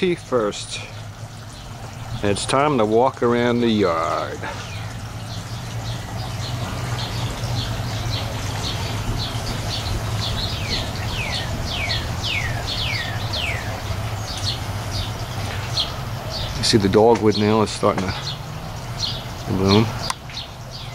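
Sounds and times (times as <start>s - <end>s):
songbirds chirping: 0.0s - 20.9s
steady low hum: 0.0s - 20.9s.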